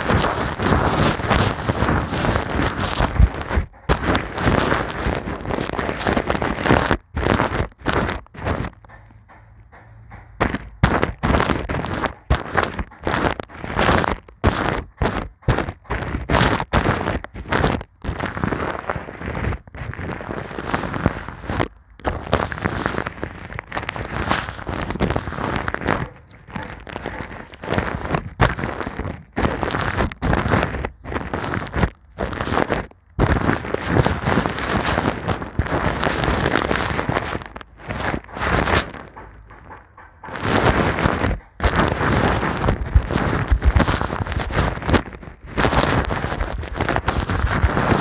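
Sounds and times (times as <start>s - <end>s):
brush scratching microphone foam: 0.0s - 48.0s.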